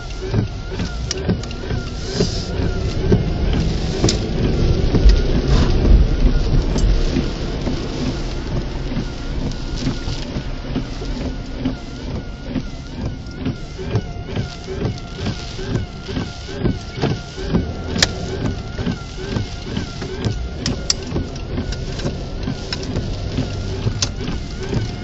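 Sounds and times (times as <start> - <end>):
deep rumble: 0.0 - 25.0
heavy rain pelting a car: 0.0 - 25.0.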